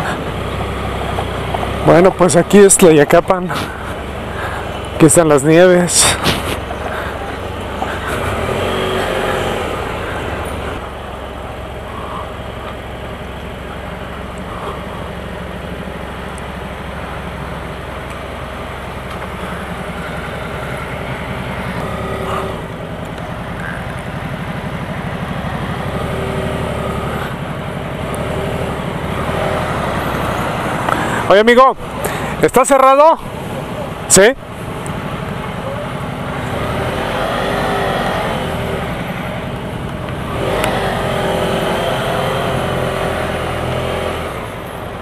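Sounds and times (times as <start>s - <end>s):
motorcycle engine at low revs: 0.0s - 32.5s, 33.1s - 45.0s.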